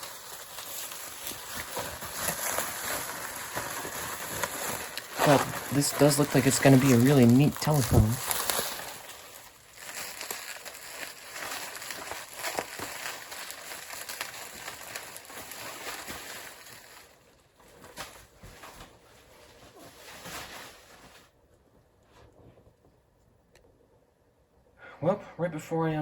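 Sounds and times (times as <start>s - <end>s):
packaging rustling and crinkling: 0.0s - 21.5s.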